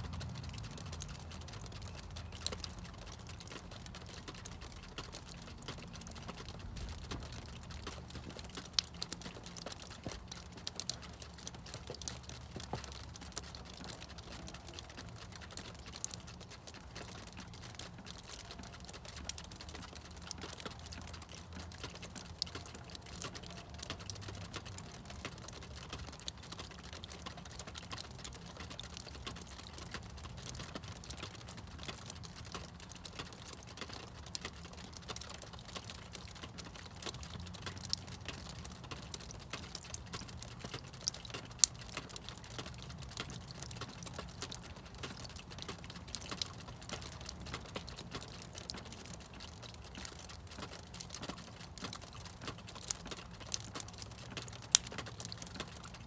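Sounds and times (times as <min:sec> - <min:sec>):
meltwater dripping: 0:00.0 - 0:56.0.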